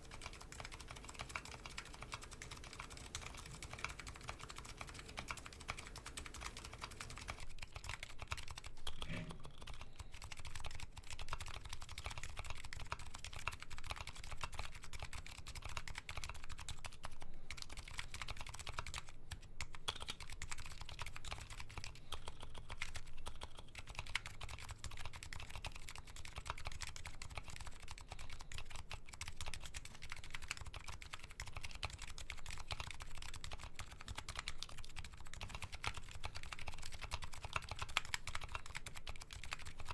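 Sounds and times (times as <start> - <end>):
fast keyboard typing clacks: 0.0 - 8.8, 9.6 - 19.1, 19.7 - 39.9.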